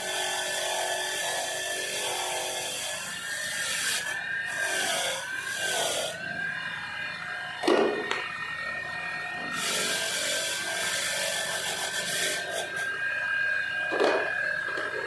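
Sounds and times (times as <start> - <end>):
steady high whine: 2.6 - 15.0.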